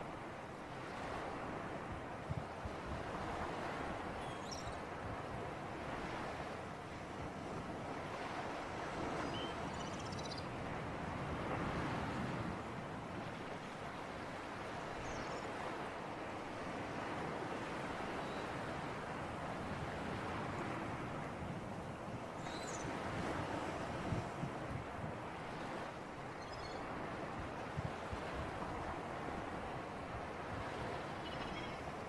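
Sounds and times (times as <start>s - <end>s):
wind and waves: 0.0s - 32.0s.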